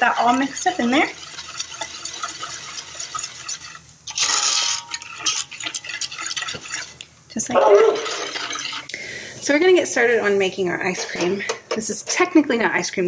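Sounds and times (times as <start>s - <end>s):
whisk scraping a metal pan: 0.0s - 12.4s.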